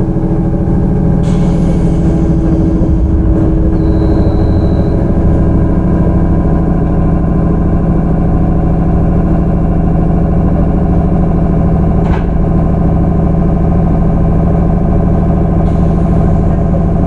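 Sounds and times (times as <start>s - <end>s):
low rumble: 0.0s - 17.0s
train motor hum: 0.0s - 17.0s.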